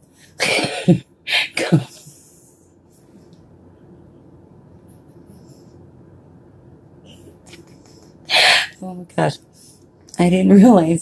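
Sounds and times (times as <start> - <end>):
quiet room hum: 0.0 - 11.0.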